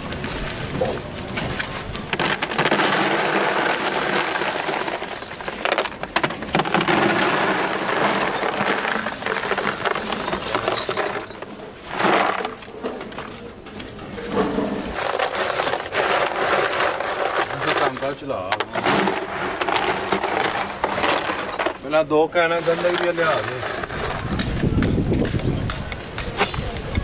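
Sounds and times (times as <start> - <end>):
scrap metal clattering: 1.8 - 24.6.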